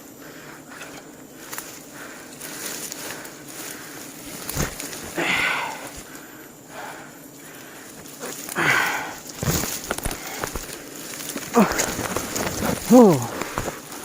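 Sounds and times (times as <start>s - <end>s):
rustling through brush: 0.0s - 14.0s
twigs snapping: 0.8s - 6.3s, 7.4s - 14.0s.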